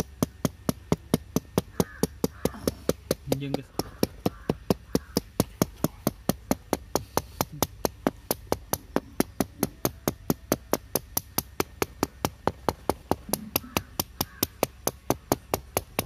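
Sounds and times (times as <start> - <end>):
knife tapping through dough on metal: 0.0 - 16.0.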